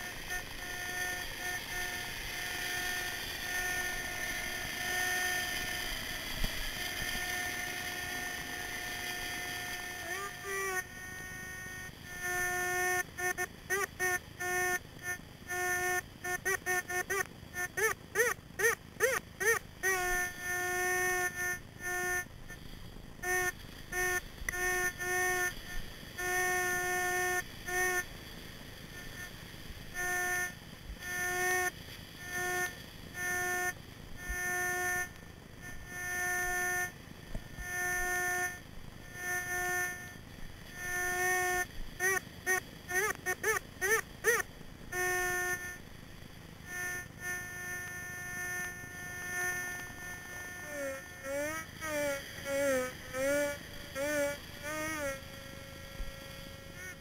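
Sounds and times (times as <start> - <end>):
metal detector wavering tones: 0.0 - 28.2, 28.8 - 57.0.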